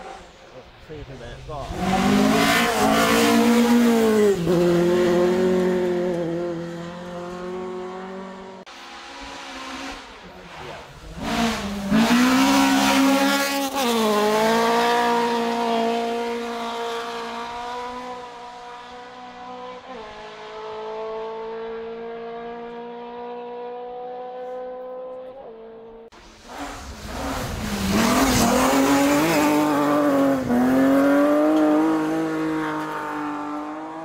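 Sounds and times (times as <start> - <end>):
rally car engine passing: 0.0 - 34.0.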